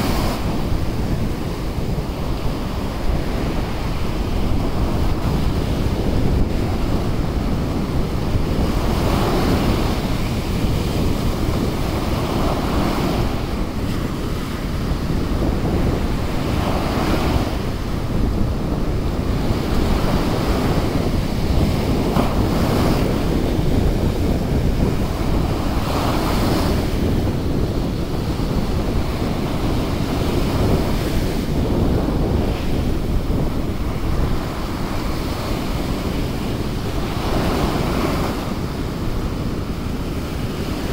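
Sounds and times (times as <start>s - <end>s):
surf breaking on sandy beach: 0.0s - 40.9s
wind rumbling on microphone: 0.0s - 40.9s.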